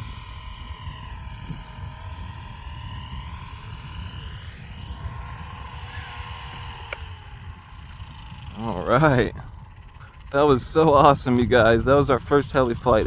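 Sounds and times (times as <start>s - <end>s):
helicopter motor and rotor whine: 0.0s - 13.0s
wind buffeting microphone: 0.0s - 13.0s.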